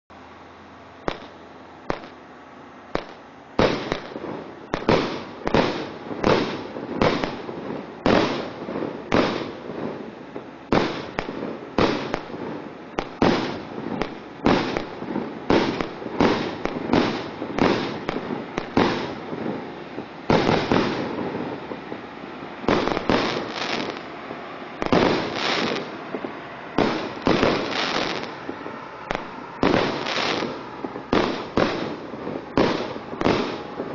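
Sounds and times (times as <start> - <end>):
fireworks cake bangs: 1.1 - 2.2, 3.0 - 33.9.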